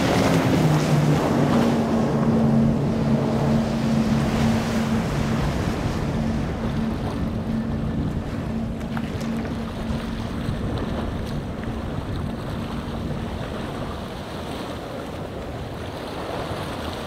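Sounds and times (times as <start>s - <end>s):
motorboat engines droning: 0.0s - 17.0s
rushing surf: 0.0s - 17.0s
wind on microphone: 0.0s - 17.0s.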